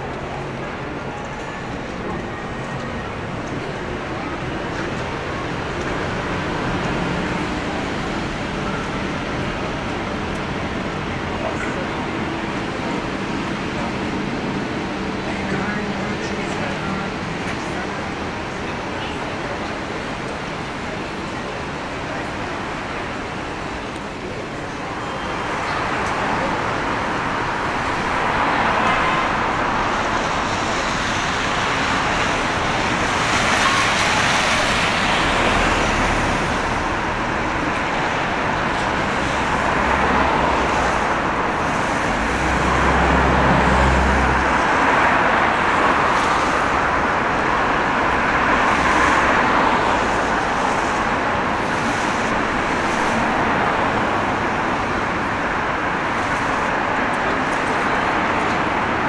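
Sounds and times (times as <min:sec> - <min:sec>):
cars passing on wet street: 0:00.0 - 0:59.0.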